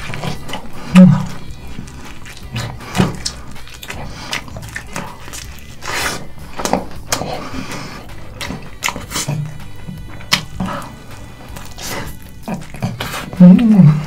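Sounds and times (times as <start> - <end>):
crunching and chewing fried chicken: 0.0 - 14.0.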